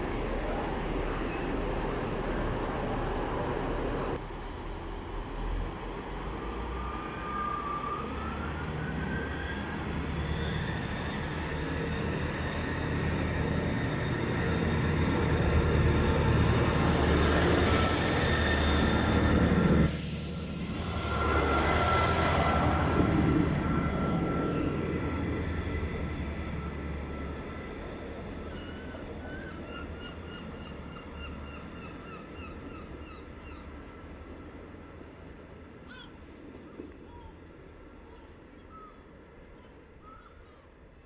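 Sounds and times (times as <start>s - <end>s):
train engine rumble and whine: 0.0s - 41.0s.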